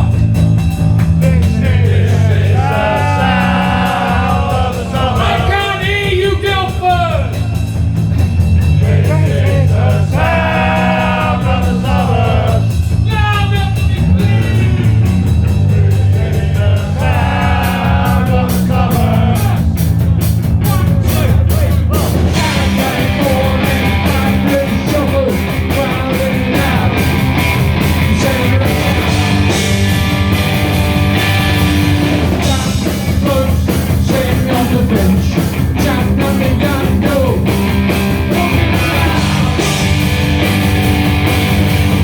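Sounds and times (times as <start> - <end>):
drums and bass: 0.0 - 42.0.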